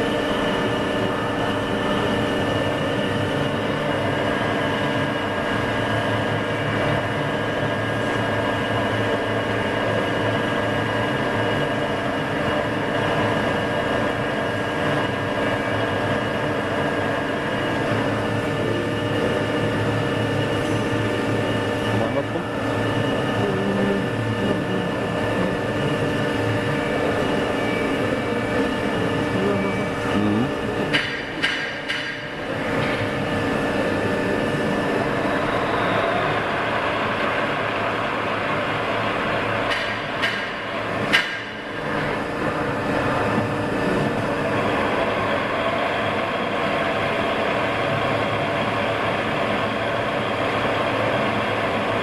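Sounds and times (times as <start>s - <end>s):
milling machine humming: 0.0s - 52.0s.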